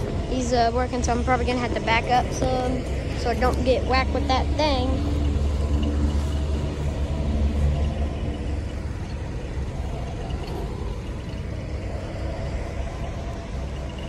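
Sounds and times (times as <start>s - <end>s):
steel wheels rumbling on rails: 0.0s - 14.0s.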